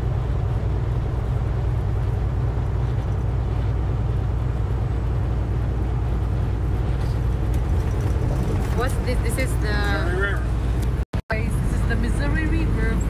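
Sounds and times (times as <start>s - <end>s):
road and engine rumble in vehicle: 0.0s - 13.0s.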